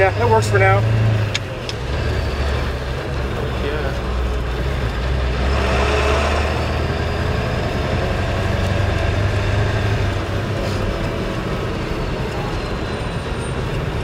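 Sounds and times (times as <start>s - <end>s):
diesel truck engine rumbling: 0.0s - 14.0s
drivetrain and road noise: 0.0s - 14.0s.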